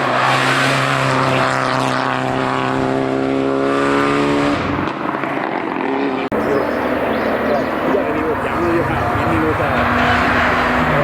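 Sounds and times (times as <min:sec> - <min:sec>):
race car engine passing: 0:00.0 - 0:11.0.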